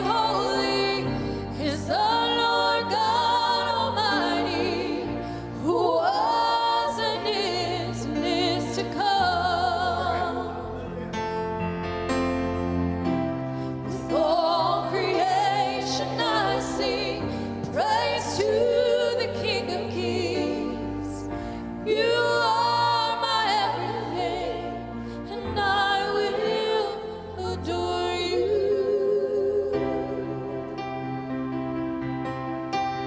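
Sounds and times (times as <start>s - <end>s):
keyboard chords and bass: 0.0s - 29.0s, 29.6s - 33.0s.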